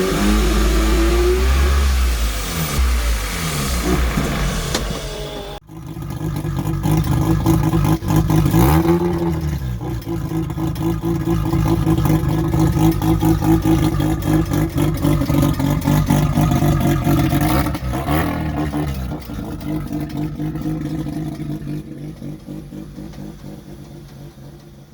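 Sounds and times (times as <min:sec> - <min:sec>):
rotary engine running and revving: 0:00.0 - 0:24.9.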